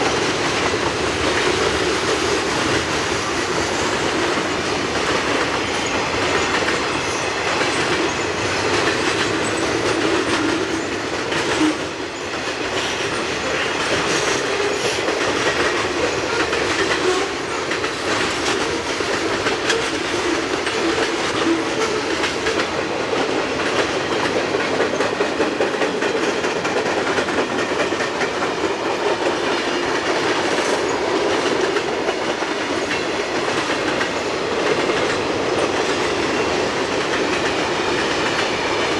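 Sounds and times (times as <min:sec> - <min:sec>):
freight train wheels clicking: 0:00.0 - 0:38.9.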